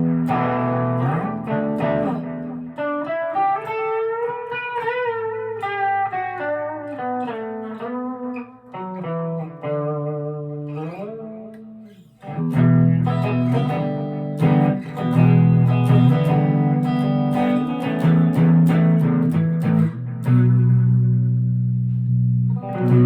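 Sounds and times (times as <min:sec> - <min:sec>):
electric guitar playing: 0:00.0 - 0:23.0.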